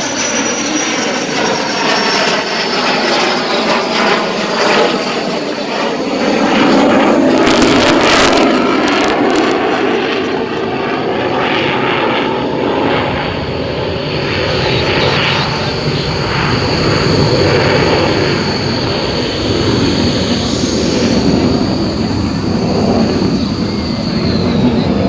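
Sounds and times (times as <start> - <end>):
high jet whine: 0.0 - 25.0
jet engine roaring: 0.0 - 25.0.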